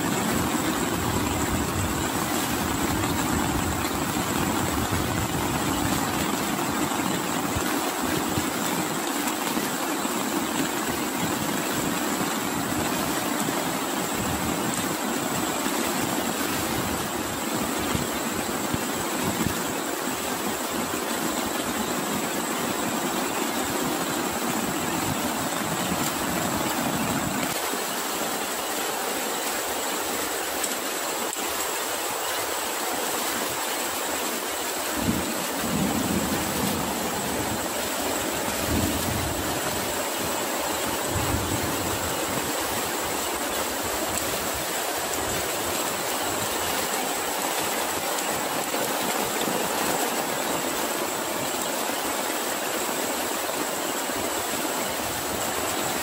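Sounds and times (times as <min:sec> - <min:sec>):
heavy rain: 0:00.0 - 0:56.0
runoff water flowing: 0:00.0 - 0:56.0.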